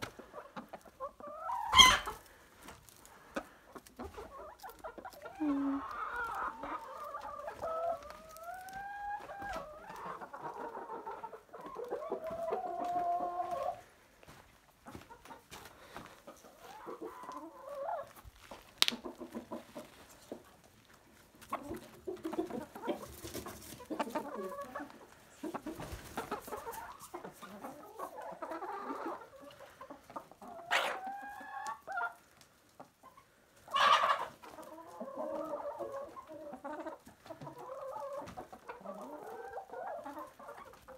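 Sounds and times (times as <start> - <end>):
hens and roosters clucking: 0.0 - 40.9
hens pecking feed from hand: 0.0 - 40.9.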